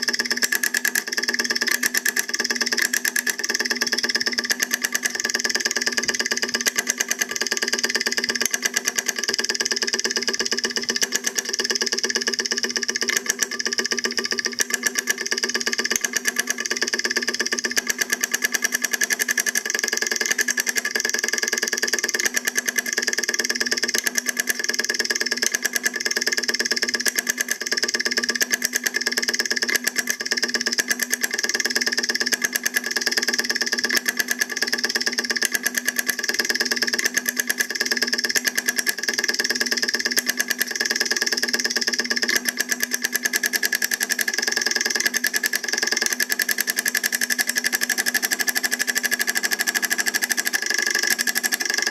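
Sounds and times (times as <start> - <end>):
solenoid motor clattering: 0.0 - 51.9.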